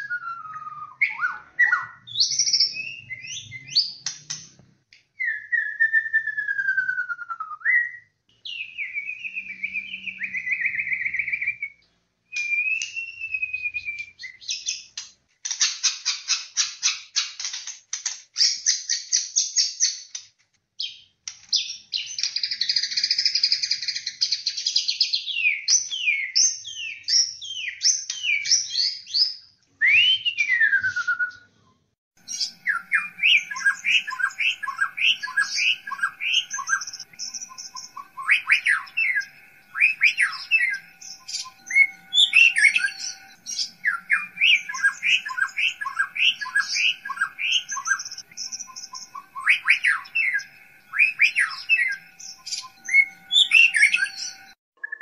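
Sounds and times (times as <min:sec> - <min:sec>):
bird singing whistled notes: 0:00.0 - 0:04.4, 0:05.2 - 0:14.9, 0:20.8 - 0:31.5, 0:32.2 - 0:55.0.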